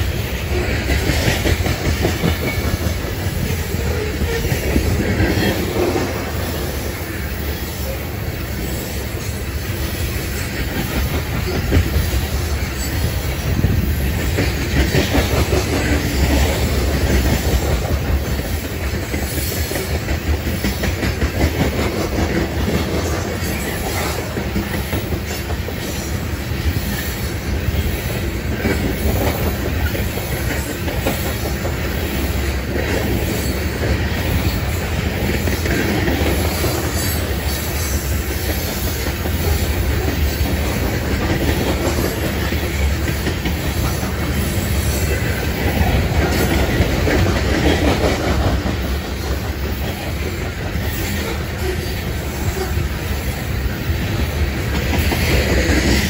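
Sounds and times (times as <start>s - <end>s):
freight train wheels clickety-clack: 0.0s - 56.0s.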